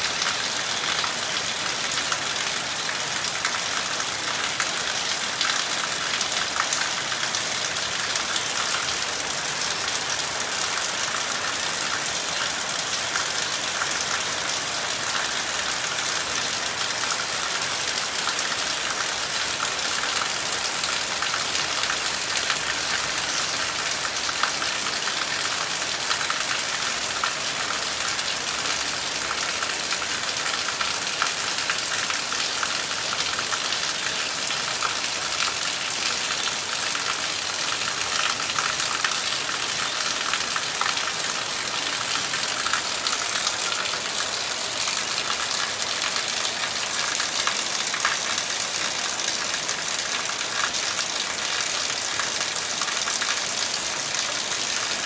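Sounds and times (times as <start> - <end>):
heavy rain on trees: 0.0 - 55.0.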